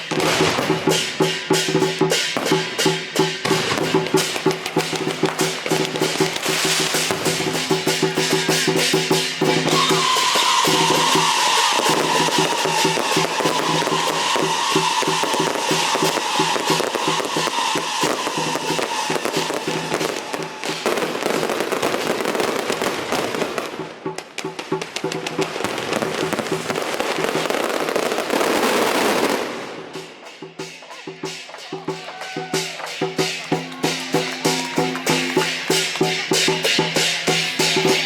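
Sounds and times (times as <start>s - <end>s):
drums and percussion beating: 0.0s - 38.0s
firecrackers crackling: 0.0s - 38.0s.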